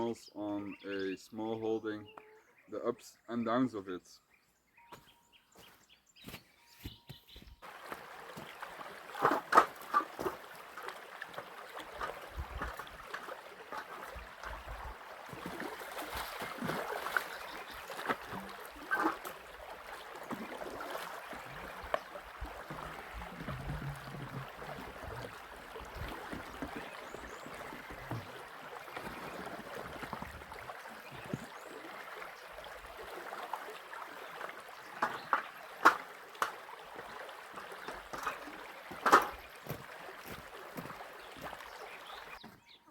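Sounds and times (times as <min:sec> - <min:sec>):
running water trickling: 0:07.6 - 0:42.6.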